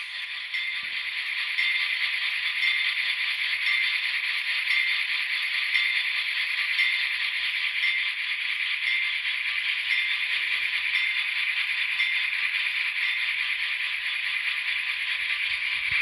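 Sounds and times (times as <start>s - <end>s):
model locomotive bell ringing: 0.0s - 16.0s.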